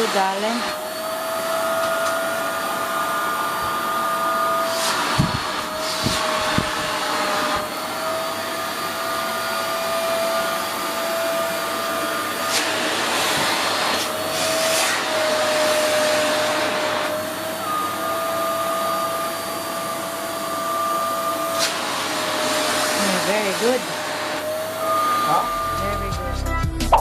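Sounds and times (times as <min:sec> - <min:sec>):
vacuum cleaner running: 0:00.0 - 0:26.3.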